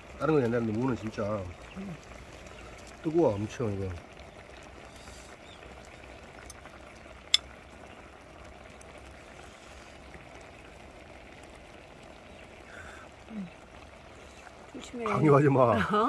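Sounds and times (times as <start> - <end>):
pan simmering: 0.0 - 16.0.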